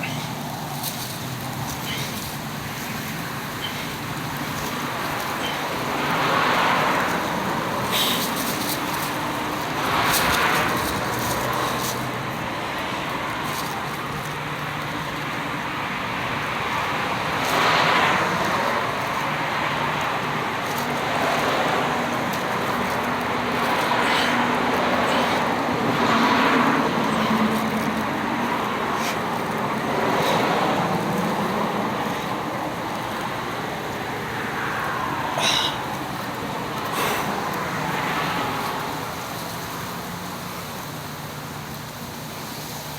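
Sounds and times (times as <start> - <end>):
road traffic hum: 0.0 - 42.9
vehicles passing: 0.0 - 42.9.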